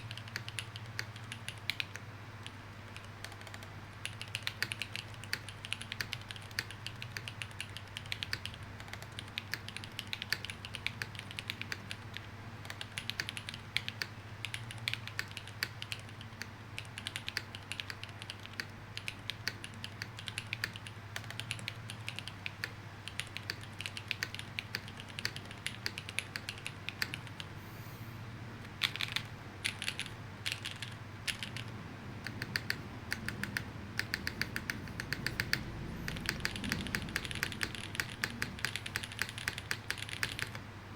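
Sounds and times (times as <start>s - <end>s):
mechanical keyboard typing: 0.0s - 27.6s, 28.6s - 40.6s.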